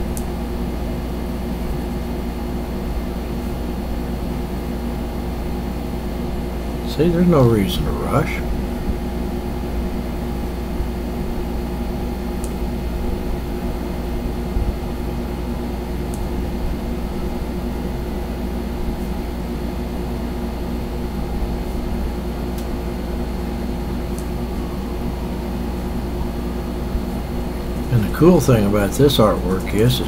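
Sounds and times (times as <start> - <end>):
low machinery hum: 0.0 - 30.0.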